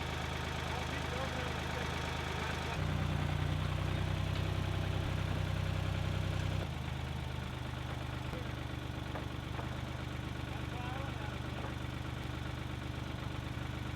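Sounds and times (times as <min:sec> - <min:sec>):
sawmill engine running: 0:00.0 - 0:13.9.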